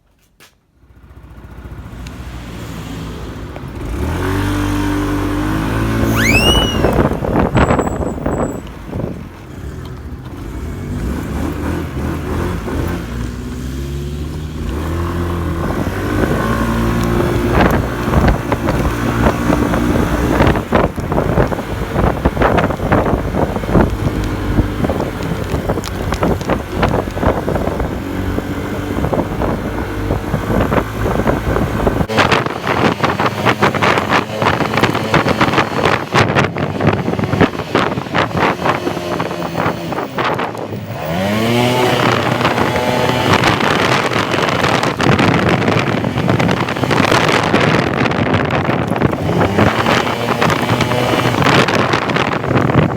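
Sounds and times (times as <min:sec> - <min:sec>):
motorcycle engine revving: 0:00.9 - 0:52.9
wind buffeting microphone: 0:05.2 - 0:10.2, 0:14.6 - 0:52.9.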